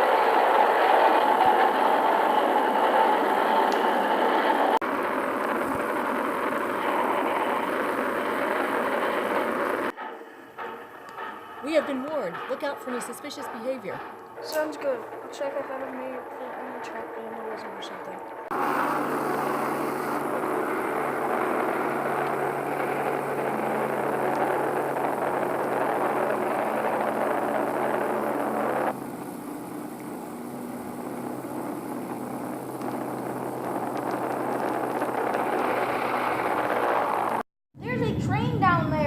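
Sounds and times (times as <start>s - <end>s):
train running: 0.0s - 39.0s.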